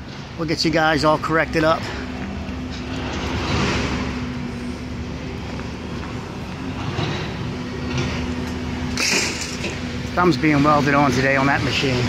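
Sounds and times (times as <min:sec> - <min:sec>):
heavy machinery engine rumbling: 0:00.0 - 0:12.0.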